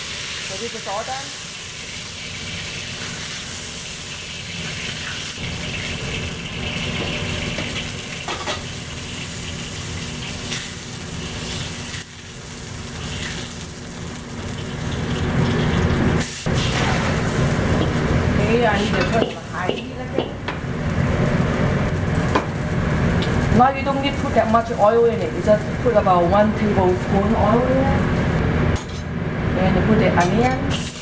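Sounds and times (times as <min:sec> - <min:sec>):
wok hissing and sizzling: 0:00.0 - 0:28.7, 0:30.5 - 0:31.0
wok burner roaring: 0:00.0 - 0:31.0.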